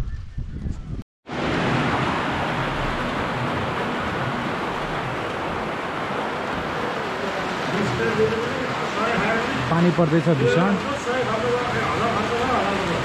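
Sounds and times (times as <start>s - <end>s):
heavy rain falling: 1.3s - 13.0s.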